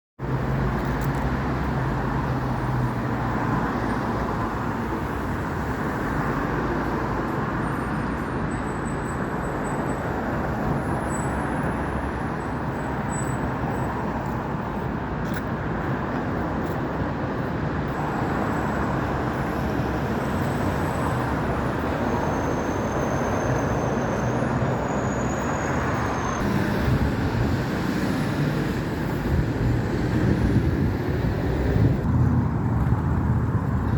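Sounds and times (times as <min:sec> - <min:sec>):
cars and buses passing: 0:00.2 - 0:33.9.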